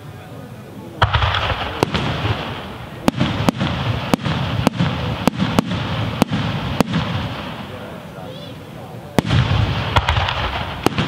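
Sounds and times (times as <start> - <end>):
steady hissing noise: 0.0 - 11.0
firework shells bursting: 1.0 - 11.0.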